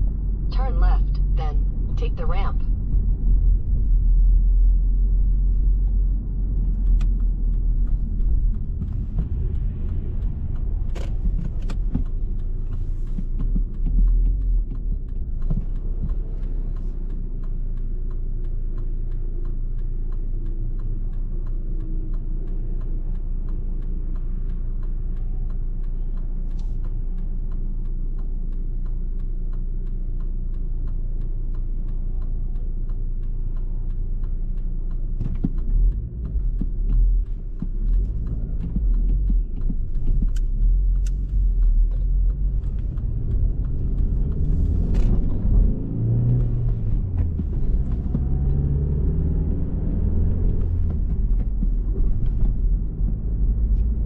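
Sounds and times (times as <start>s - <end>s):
car driving road noise: 0.0s - 54.0s
sharp clicks: 5.8s - 54.0s.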